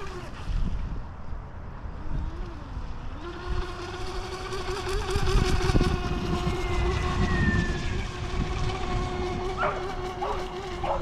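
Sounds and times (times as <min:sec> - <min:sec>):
rc boat motor whining: 0:00.0 - 0:11.0.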